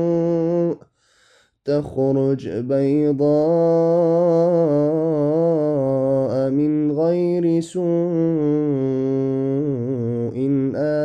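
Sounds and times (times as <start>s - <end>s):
man reciting melodically: 0.0s - 0.8s, 1.6s - 11.0s.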